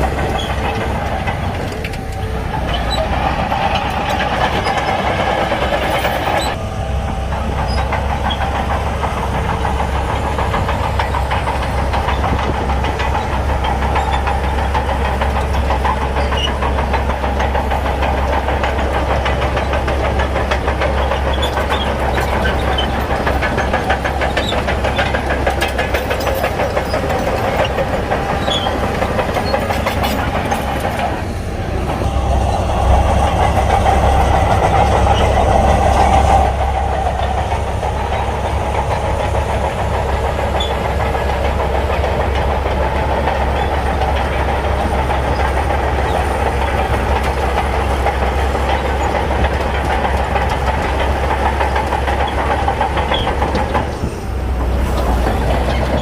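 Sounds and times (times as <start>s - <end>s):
bulldozer diesel engine under load: 0.0s - 56.0s
steel tracks clanking: 0.0s - 56.0s.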